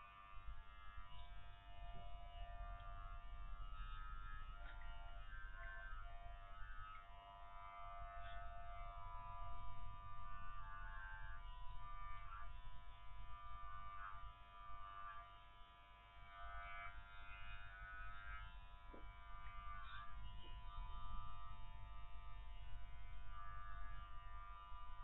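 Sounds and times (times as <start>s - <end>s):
electric clippers buzzing: 0.0s - 25.0s.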